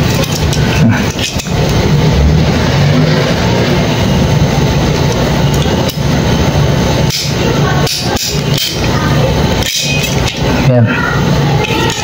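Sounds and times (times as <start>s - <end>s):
loud droning hum: 0.0s - 12.0s.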